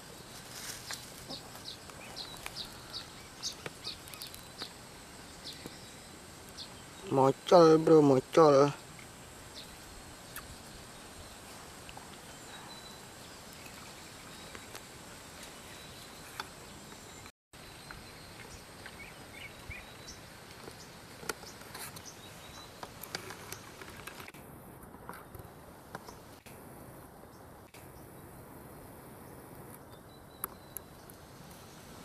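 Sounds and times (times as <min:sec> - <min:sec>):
steady hiss: 0:00.0 - 0:29.9, 0:30.8 - 0:32.0
insect drone: 0:00.0 - 0:32.0.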